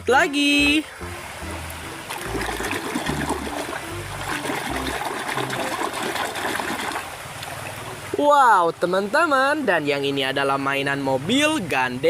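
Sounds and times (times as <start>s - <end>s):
river water trickling: 0.0s - 12.0s.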